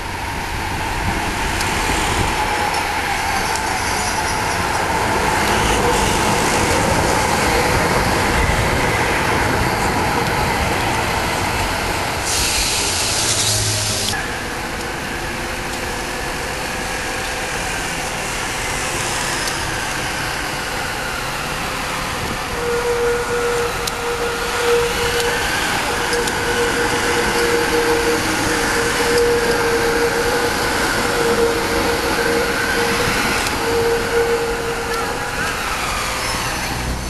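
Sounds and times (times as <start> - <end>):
steady whine: 0.0 - 37.0
tram passing: 0.0 - 37.0.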